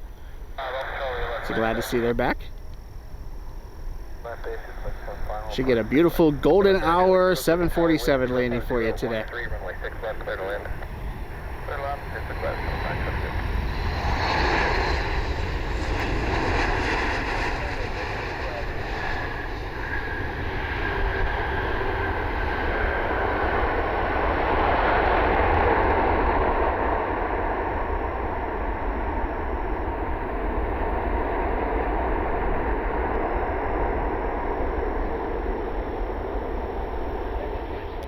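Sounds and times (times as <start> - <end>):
faint falling engine whine: 0.0 - 38.0
jet airliner engines rumbling: 0.0 - 38.0.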